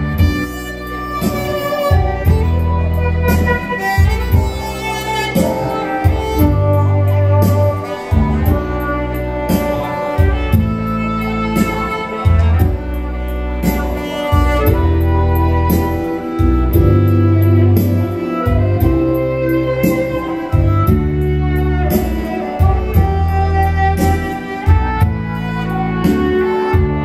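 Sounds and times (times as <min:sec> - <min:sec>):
held bass notes: 0:00.0 - 0:27.0
steady accompaniment beat: 0:00.0 - 0:27.0
string-like keyboard melody: 0:00.0 - 0:27.0.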